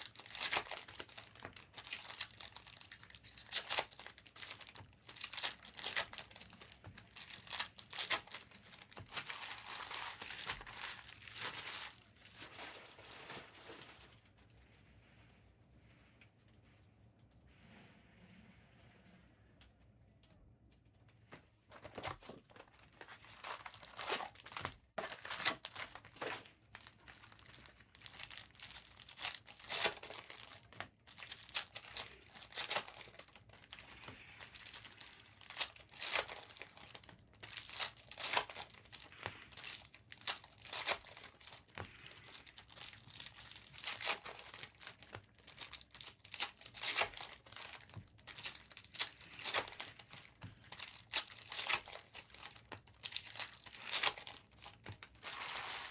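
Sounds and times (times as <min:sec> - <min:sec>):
foil wrappers tearing and crinkling: 0:00.0 - 0:14.2, 0:21.8 - 0:55.9.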